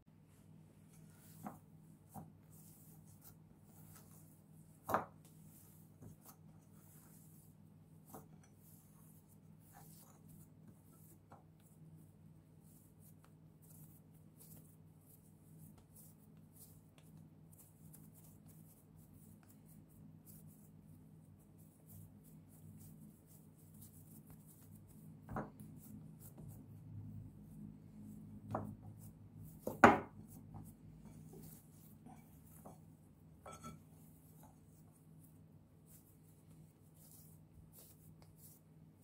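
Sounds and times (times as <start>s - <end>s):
hands kneading dough: 0.1s - 39.0s.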